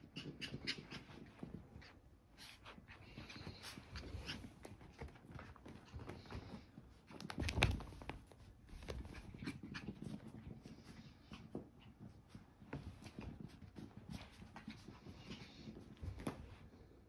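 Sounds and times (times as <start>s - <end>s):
puppies panting: 0.0s - 7.1s, 8.9s - 16.4s
puppies scuffling: 0.0s - 17.0s.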